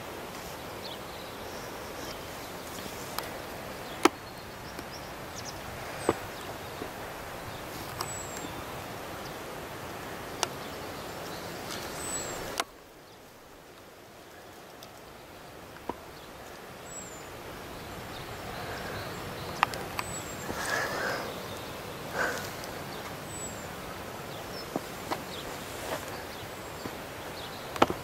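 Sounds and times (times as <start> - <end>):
distant surf on rocks: 0.0 - 28.0.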